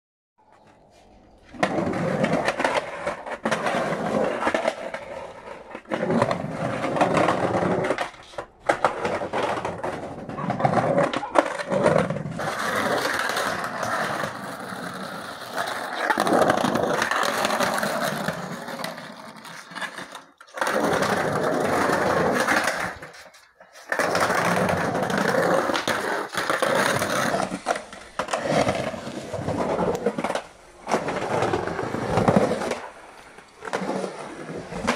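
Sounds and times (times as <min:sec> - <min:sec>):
skateboard wheels rolling on concrete: 0:00.4 - 0:34.9.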